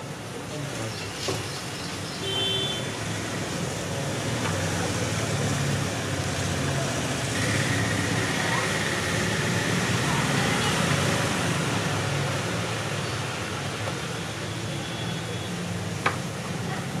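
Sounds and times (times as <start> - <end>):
street traffic din: 0.0 - 17.0.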